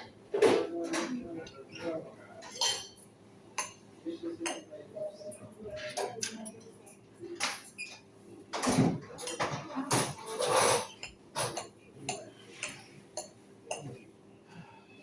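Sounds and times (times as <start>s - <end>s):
cutlery and dishes clinking: 0.4s - 3.8s, 5.4s - 14.0s.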